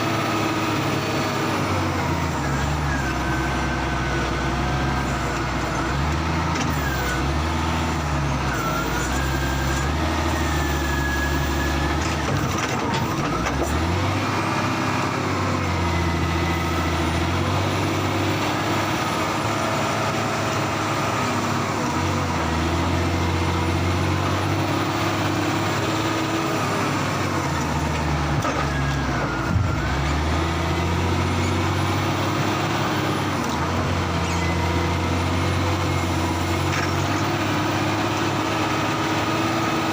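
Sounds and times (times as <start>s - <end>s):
heavy diesel engines revving: 0.0s - 39.9s.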